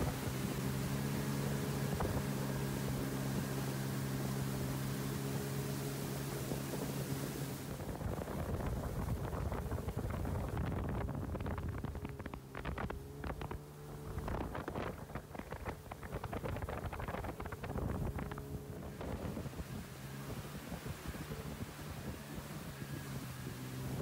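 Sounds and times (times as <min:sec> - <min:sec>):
motorboat engine running: 0:00.0 - 0:24.0
wind buffeting microphone: 0:00.0 - 0:24.0.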